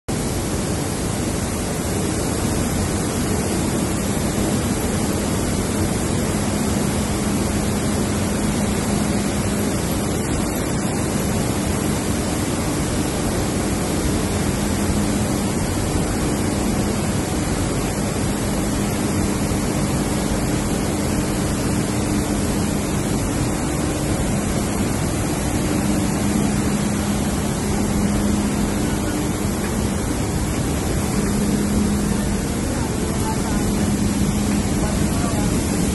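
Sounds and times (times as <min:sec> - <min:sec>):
loud machinery hiss: 0:00.1 - 0:35.9
low motor hum: 0:00.1 - 0:35.9.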